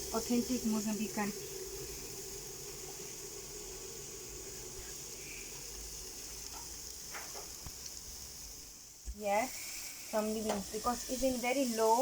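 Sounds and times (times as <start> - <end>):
chicken sizzling on grill: 0.0 - 12.0.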